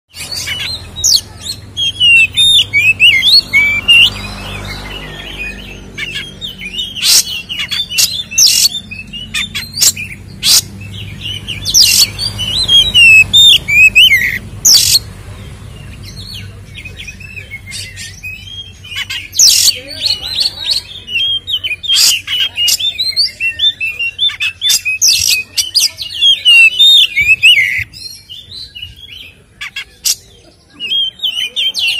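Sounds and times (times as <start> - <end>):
bird chattering and whistling: 0.1 - 31.9.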